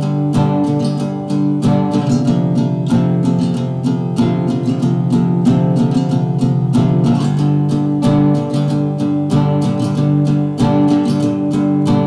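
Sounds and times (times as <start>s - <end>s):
guitar instrumental music: 0.0s - 12.0s.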